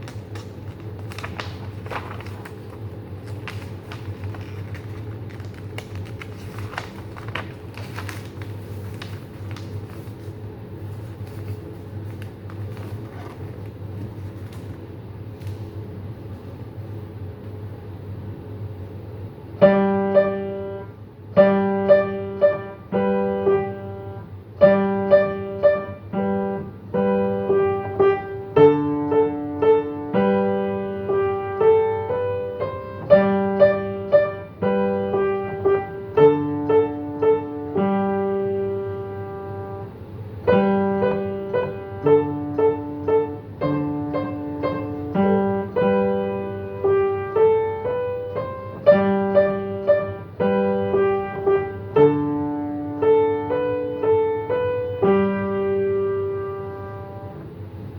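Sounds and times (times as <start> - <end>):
piano playing slow piece: 0.0 - 16.4, 19.4 - 57.9
faint low hum: 0.0 - 57.9.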